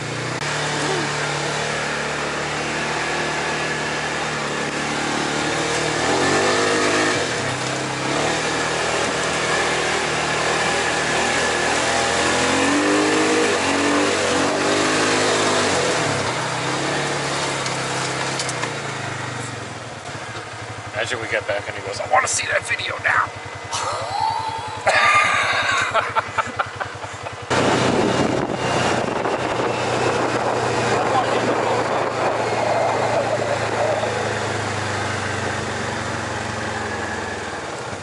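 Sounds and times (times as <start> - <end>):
vehicle engine revving while driving: 0.0 - 38.0.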